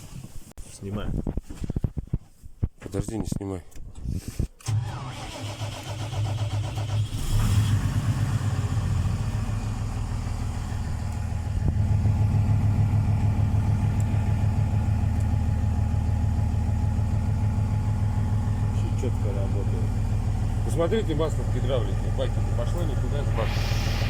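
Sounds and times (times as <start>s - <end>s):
diesel engine running: 4.7s - 24.0s.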